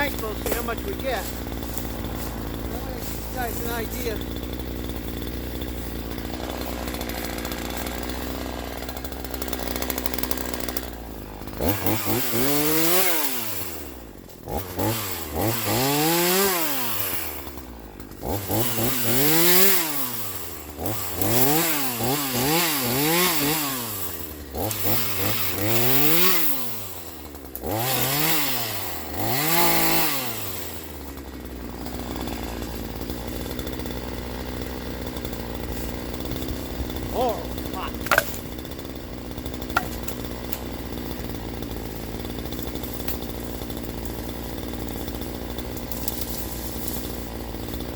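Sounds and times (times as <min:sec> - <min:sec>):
chainsaw idling and revving: 0:00.0 - 0:47.9.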